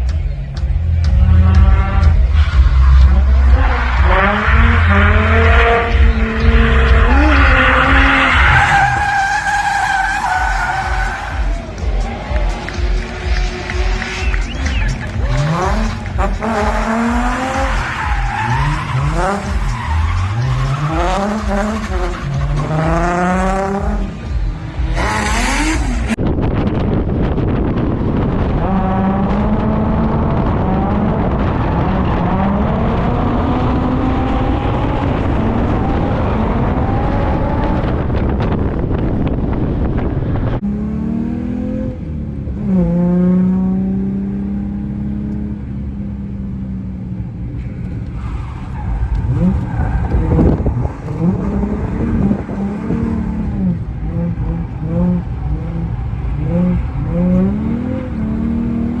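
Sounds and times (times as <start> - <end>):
car engine revving hard: 1.0 - 11.6, 12.4 - 26.2, 28.2 - 38.2, 40.6 - 47.0, 48.1 - 59.0.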